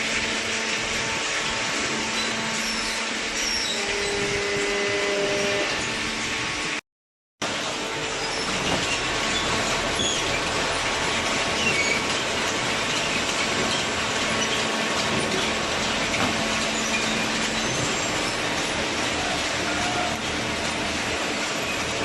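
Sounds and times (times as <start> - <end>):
paper baler mechanical din: 0.0 - 6.7, 7.4 - 22.0.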